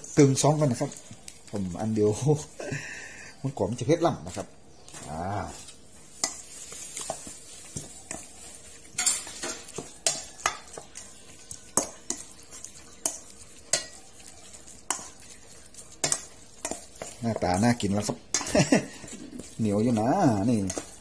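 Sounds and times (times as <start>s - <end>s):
wet mixing: 0.0s - 21.0s.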